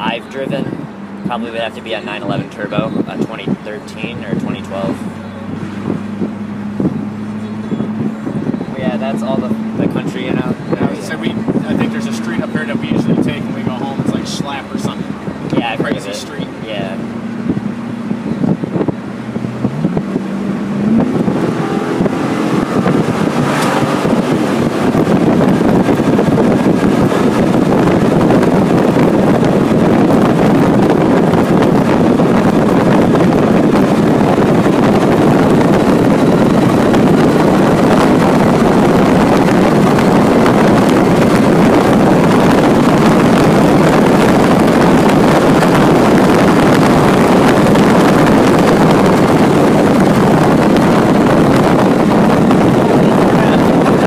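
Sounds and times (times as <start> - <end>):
car engine at full throttle: 0.0 - 54.0
wind and road noise: 0.0 - 54.0.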